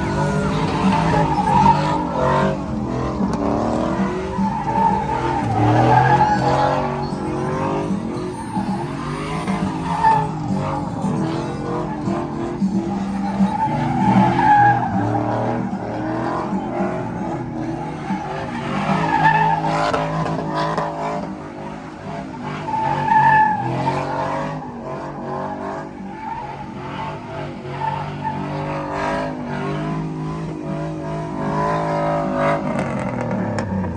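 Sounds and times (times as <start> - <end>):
tires squealing: 0.0 - 33.9
truck engines running: 0.0 - 33.9.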